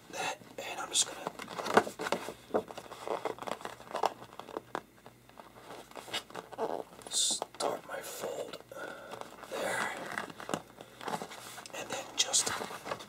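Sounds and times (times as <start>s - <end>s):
posterboard crackling and rustling: 0.9s - 13.0s.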